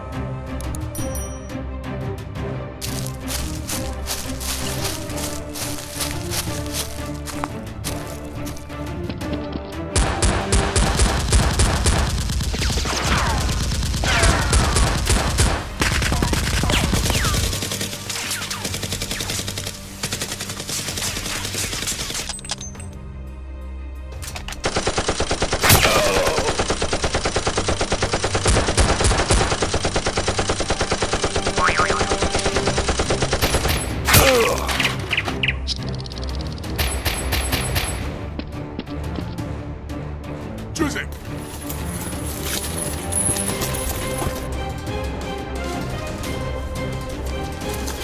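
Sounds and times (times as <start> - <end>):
background music: 0.0 - 48.0.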